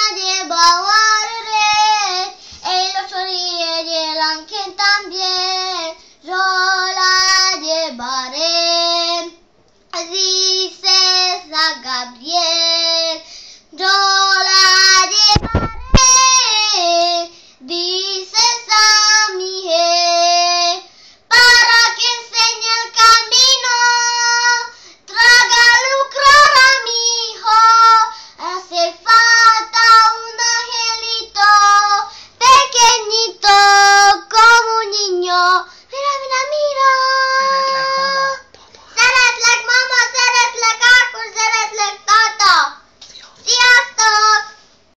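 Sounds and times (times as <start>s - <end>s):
girl singing unaccompanied: 0.0s - 44.7s.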